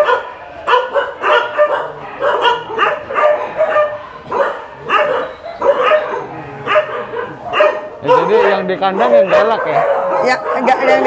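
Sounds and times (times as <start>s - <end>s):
many dogs barking: 0.0s - 11.0s.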